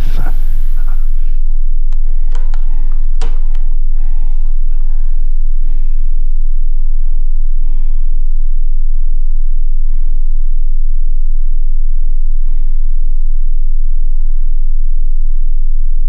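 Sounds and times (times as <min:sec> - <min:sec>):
man breathing heavily in sleep: 0:00.0 - 0:15.7
loud low hum: 0:00.0 - 0:16.0.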